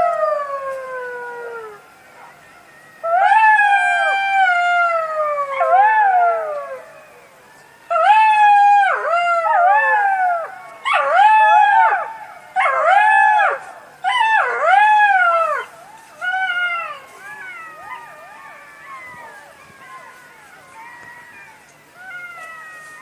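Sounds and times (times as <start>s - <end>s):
fox howling and yelping: 0.0s - 23.0s.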